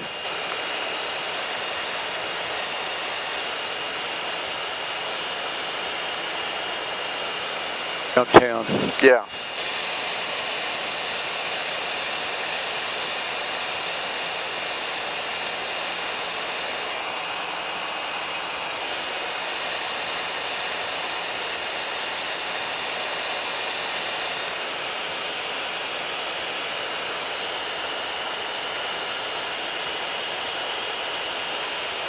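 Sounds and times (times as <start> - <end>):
aircraft engine drone: 0.0 - 32.0
thin high whine: 0.0 - 32.0.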